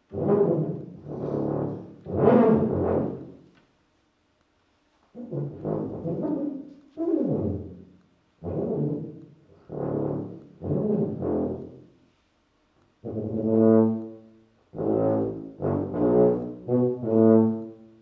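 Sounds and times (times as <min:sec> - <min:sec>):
tuba notes: 0:00.0 - 0:03.6, 0:05.1 - 0:12.2, 0:13.0 - 0:18.0.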